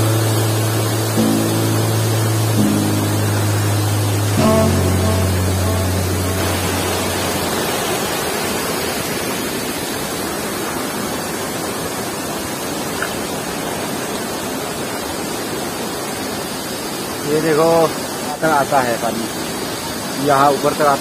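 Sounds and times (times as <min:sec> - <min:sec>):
waterfall rushing over rock: 0:00.0 - 0:21.0.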